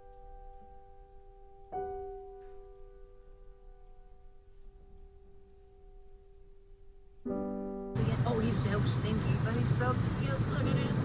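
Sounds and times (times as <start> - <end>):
slow piano chords: 0.0 - 9.6, 10.2 - 11.0.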